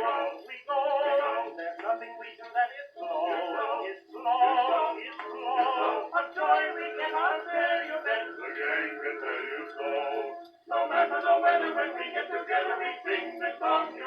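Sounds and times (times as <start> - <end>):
male vocal quartet with orchestra: 0.0 - 14.0.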